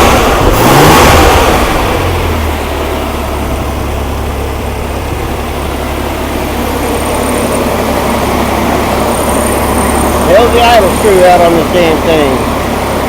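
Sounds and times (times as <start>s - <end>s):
car engine fast idle: 0.0s - 13.0s.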